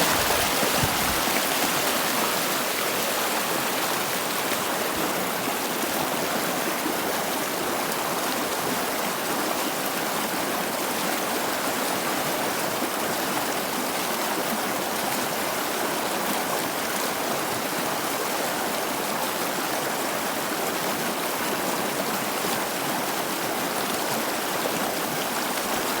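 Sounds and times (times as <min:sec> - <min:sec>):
flowing water: 0:00.0 - 0:26.0.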